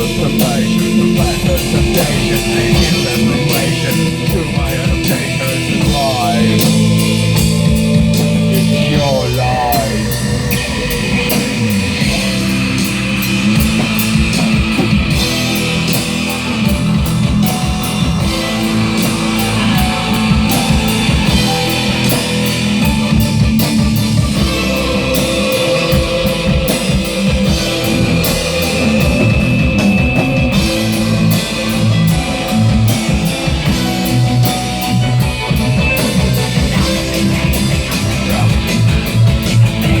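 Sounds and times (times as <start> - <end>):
drum kit beat: 0.0 - 40.0
rock guitar: 0.0 - 40.0.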